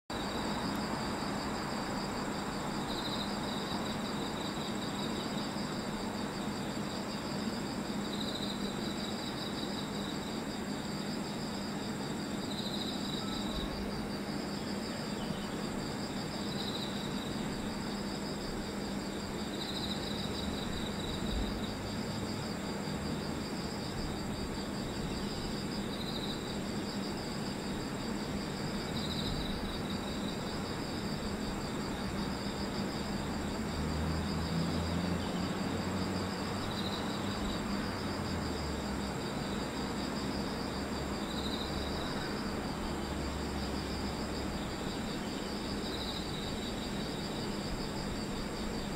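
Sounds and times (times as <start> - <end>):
crickets trilling: 0.1 - 48.9
loud insect chirp: 0.1 - 48.9.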